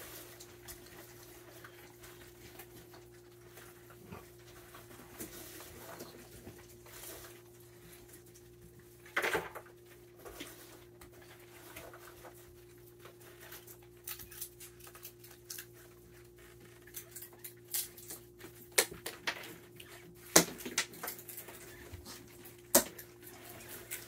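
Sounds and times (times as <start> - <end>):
raccoons crunching peanuts: 0.0 - 24.0.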